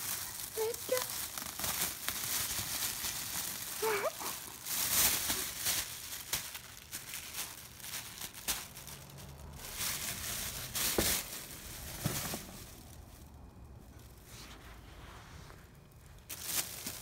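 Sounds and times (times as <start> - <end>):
plastic bag crinkling: 0.0 - 14.3, 16.1 - 17.0.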